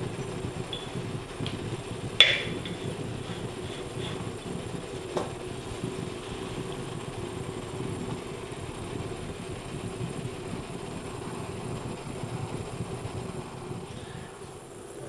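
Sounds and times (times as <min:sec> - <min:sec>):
coffee maker bubbling: 0:00.0 - 0:15.0.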